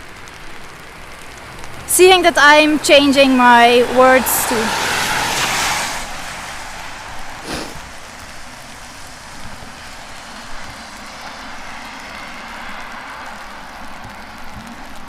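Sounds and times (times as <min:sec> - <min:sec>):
rain hissing: 0:00.0 - 0:15.0
traffic on wet roads: 0:00.0 - 0:15.0.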